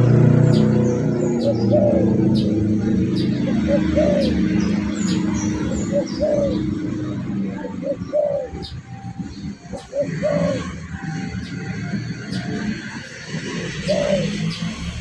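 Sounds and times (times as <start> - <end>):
dove cooing: 0.0 - 15.0
small birds chirping: 0.0 - 15.0.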